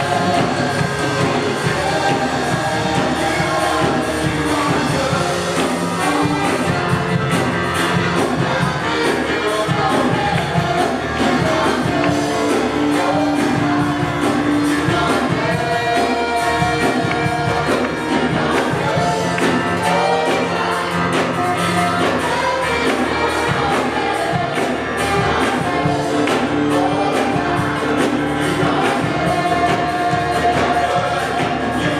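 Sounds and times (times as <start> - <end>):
full band playing: 0.0 - 31.9
gospel singers: 0.0 - 31.9.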